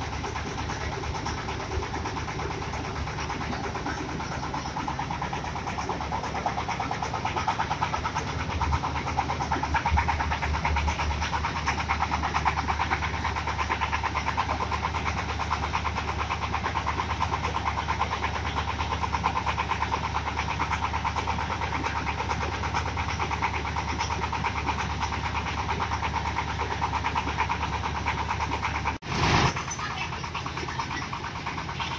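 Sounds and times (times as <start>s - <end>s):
small diesel engine clattering: 0.0s - 31.9s.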